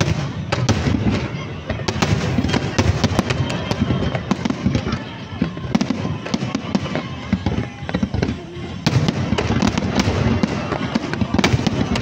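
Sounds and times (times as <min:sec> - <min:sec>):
fireworks popping and crackling: 0:00.0 - 0:12.0
music playing: 0:00.1 - 0:12.0.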